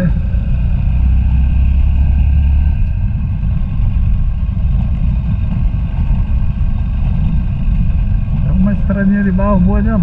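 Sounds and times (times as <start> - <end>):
deep hum: 0.0 - 10.0
vehicle rumbling on dirt road: 0.0 - 10.0.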